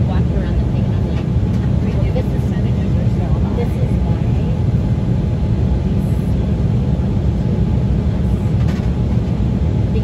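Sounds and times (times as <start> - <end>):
airliner cabin engine rumble: 0.0 - 10.0.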